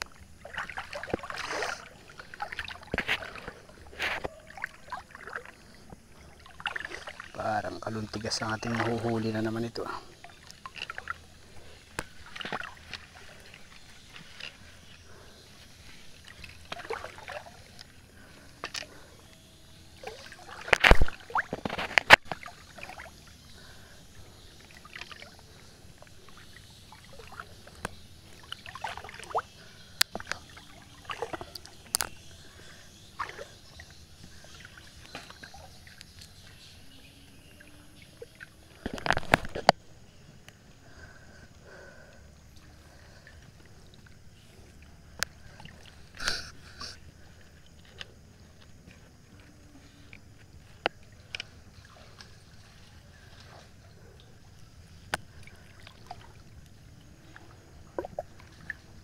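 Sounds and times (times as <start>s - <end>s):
river water splashing: 0.0s - 59.0s.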